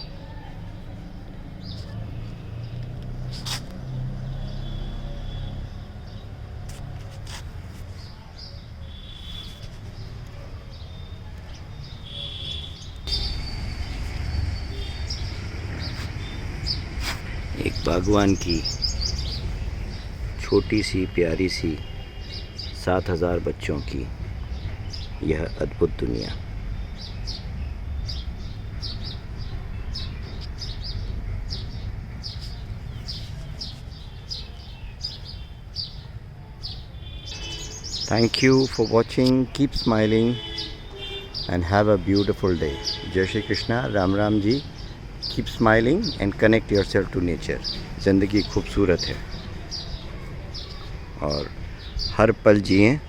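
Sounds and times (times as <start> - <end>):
birds chirping: 3.9 - 53.0.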